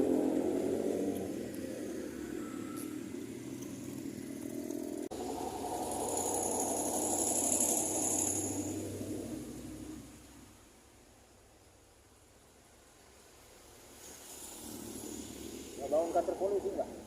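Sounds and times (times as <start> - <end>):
road vehicle noise: 0.0 - 17.0.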